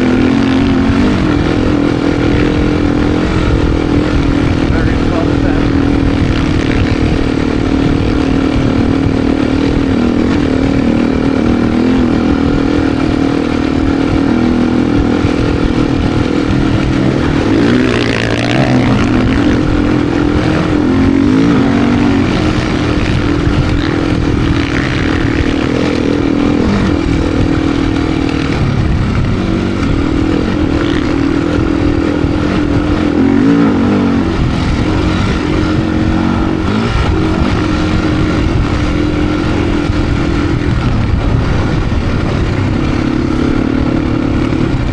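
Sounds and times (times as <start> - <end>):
motorcycle engine revving: 0.0 - 44.9
wind and chassis rumble: 0.0 - 44.9.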